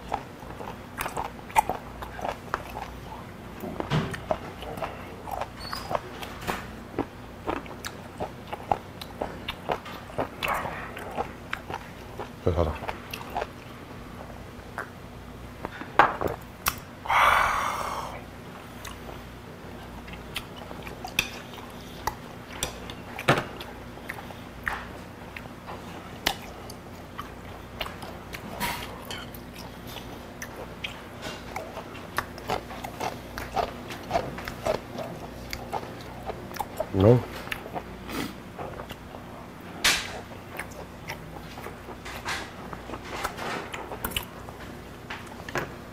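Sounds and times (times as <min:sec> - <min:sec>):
man chewing with wet mouth sounds: 0:00.0 - 0:45.9.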